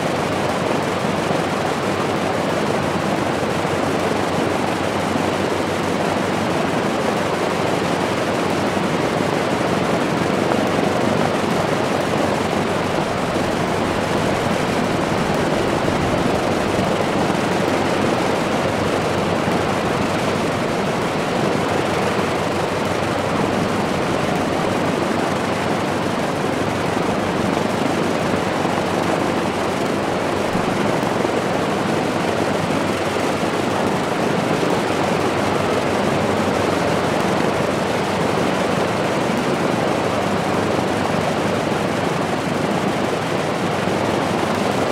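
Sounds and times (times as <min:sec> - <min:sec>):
aircraft propeller engines running: 0:00.0 - 0:44.9.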